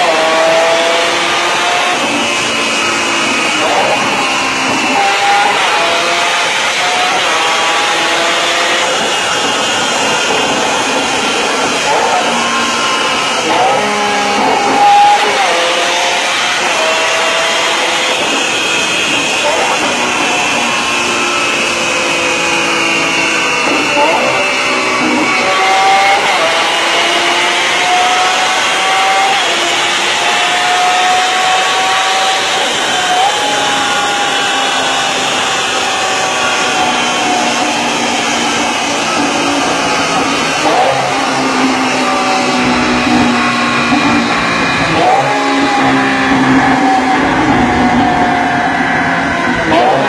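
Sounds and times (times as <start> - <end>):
car engine running hard: 0.0 - 50.0
rising whine: 0.0 - 50.0.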